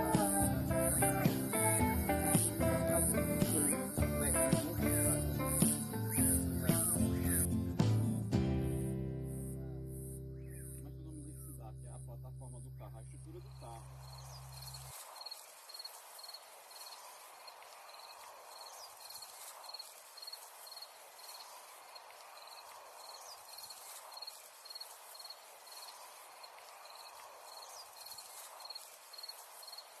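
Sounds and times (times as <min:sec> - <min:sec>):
brief rising insect calls: 0:00.0 - 0:07.4, 0:13.2 - 0:30.0
cricket chirping: 0:00.0 - 0:30.0
faint hiss of insects: 0:00.0 - 0:30.0.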